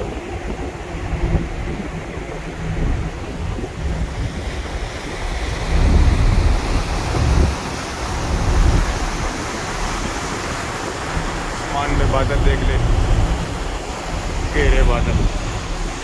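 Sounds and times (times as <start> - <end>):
rushing sea and ship wake: 0.0 - 16.0
wind buffeting microphone: 0.0 - 16.0.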